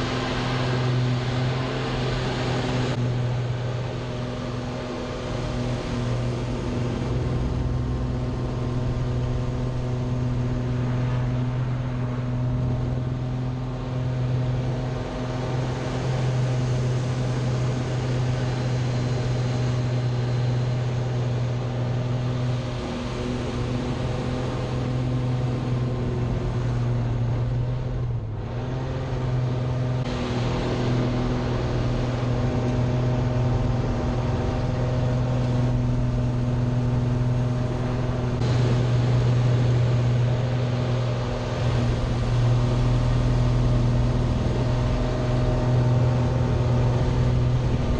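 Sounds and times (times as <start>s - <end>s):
plane engine drone: 0.0s - 47.9s.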